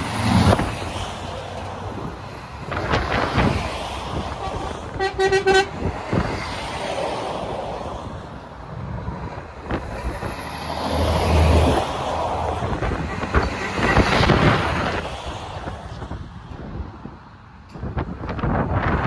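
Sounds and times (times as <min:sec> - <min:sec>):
lorries driving past: 0:00.0 - 0:19.0.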